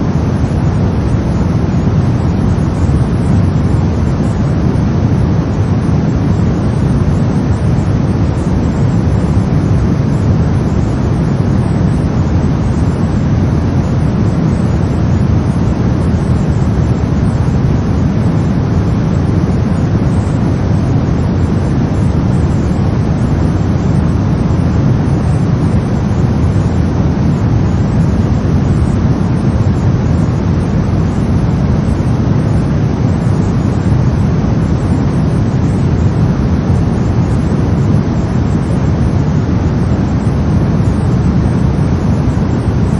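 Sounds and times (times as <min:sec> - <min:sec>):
brown noise: 0:00.0 - 0:42.9.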